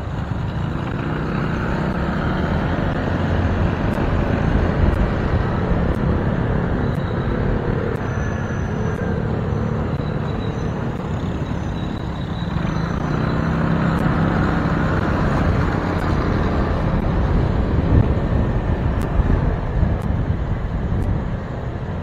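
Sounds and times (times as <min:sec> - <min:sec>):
engine hum: 0:00.0 - 0:22.0
wind and road noise: 0:00.0 - 0:22.0.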